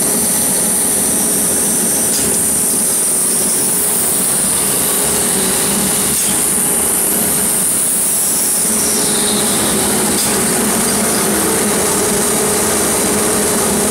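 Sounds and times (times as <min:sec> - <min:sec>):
machine humming with high hiss: 0:00.0 - 0:13.9.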